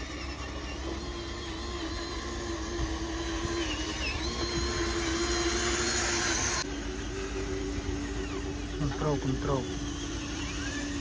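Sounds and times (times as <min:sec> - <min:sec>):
electric motor whining: 0:00.0 - 0:11.0
high pitch-shifting whine: 0:00.0 - 0:11.0.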